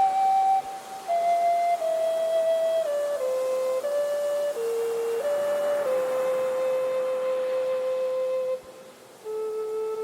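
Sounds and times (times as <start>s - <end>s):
flute melody: 0.0s - 10.0s.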